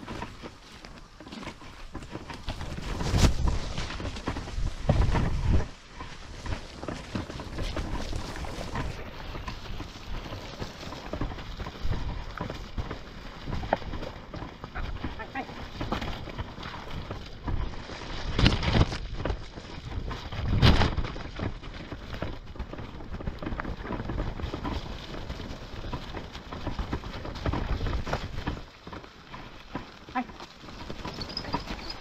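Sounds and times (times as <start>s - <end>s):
wheels rolling over dirt trail: 0.0s - 32.0s.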